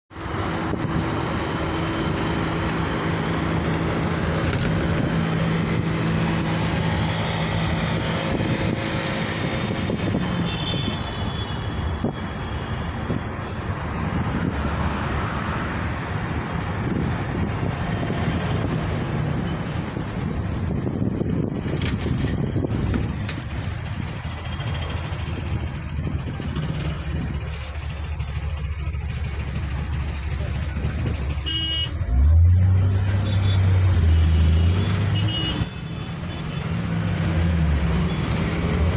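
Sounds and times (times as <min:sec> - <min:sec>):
road rumble: 0:00.1 - 0:38.9
vehicle engine hum: 0:00.1 - 0:38.9.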